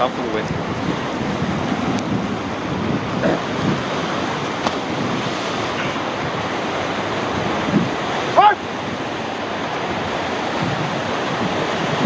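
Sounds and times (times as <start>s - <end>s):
whitewater rushing: 0.0s - 12.0s
wind buffeting microphone: 0.0s - 12.0s.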